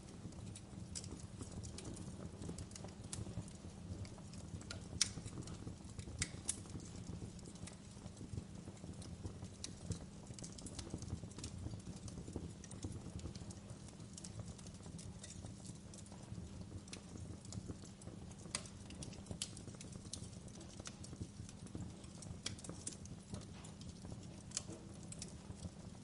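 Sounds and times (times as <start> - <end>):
low rumble of burning: 0.0 - 26.0
wood fire crackling: 0.0 - 26.0.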